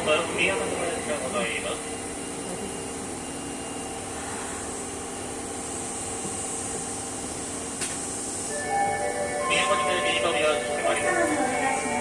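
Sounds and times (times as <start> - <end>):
train air conditioning hum and hiss: 0.0 - 12.0.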